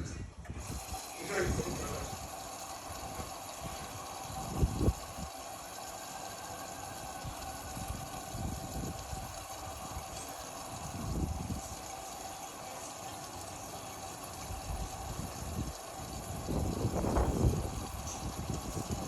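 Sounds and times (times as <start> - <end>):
washing machine running: 0.2 - 19.0.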